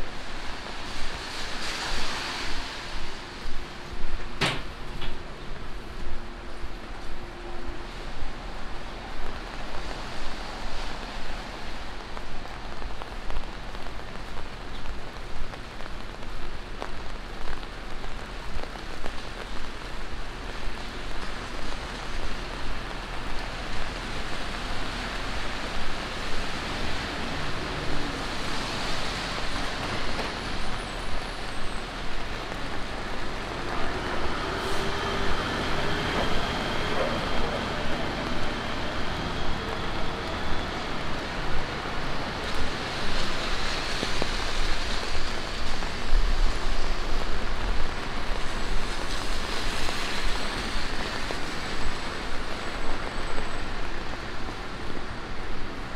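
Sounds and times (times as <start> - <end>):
rain on wet street: 0.0 - 55.9
traffic on wet road: 0.0 - 55.9
tyres hissing on wet road: 0.0 - 55.9.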